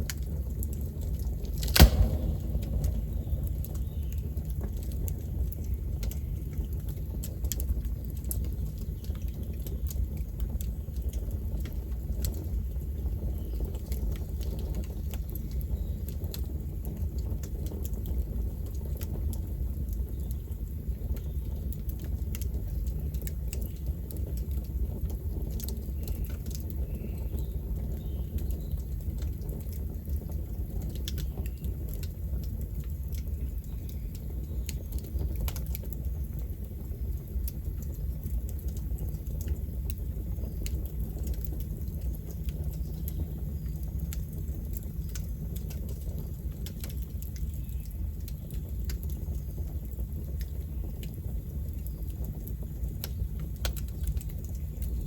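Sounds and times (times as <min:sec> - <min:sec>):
flames rumbling: 0:00.0 - 0:17.5, 0:27.6 - 0:55.0
wood crackling and popping: 0:00.0 - 0:55.0.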